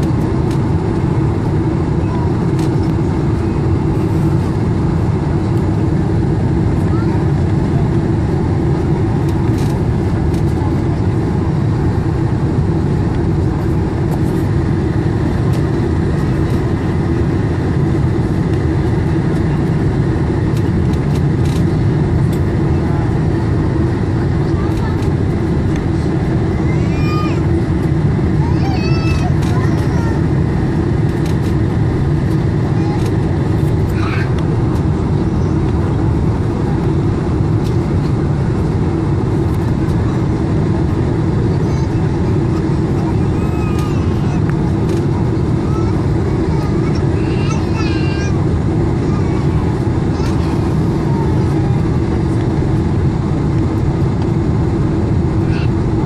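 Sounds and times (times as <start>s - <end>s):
airliner cabin engine rumble: 0.0s - 56.0s
faint drone: 0.0s - 56.0s.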